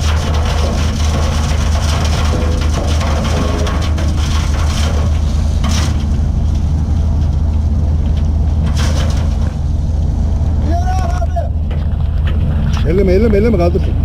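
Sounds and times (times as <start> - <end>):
excavator diesel engine drone: 0.1 - 14.0.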